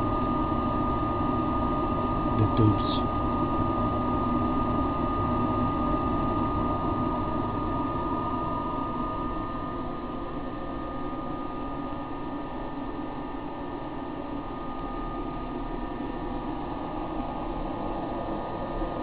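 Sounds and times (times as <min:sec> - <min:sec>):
cooling blower hiss and whine: 0:00.0 - 0:19.0.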